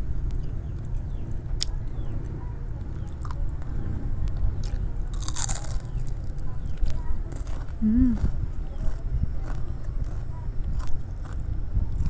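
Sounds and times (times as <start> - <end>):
steady low rumble: 0.0 - 12.0
close chewing: 0.4 - 12.0.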